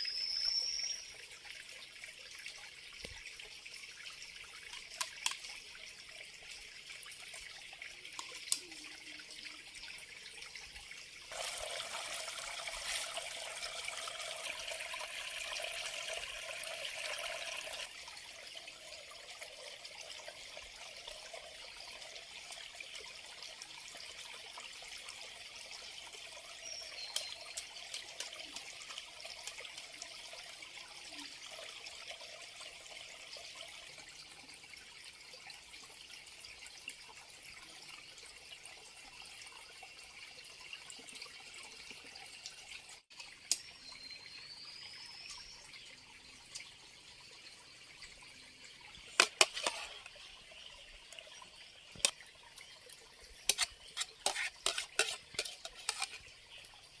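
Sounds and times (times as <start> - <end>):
water pouring: 0.0 - 57.0
water trickling: 0.0 - 57.0.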